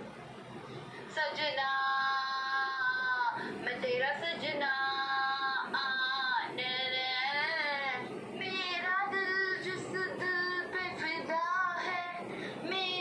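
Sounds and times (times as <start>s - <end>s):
woman singing slow melody: 1.2s - 13.0s.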